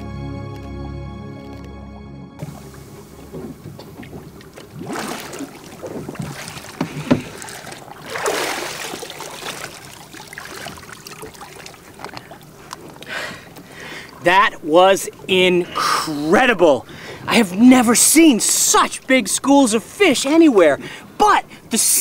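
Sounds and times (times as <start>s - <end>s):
water sloshing against boat: 2.4s - 21.7s.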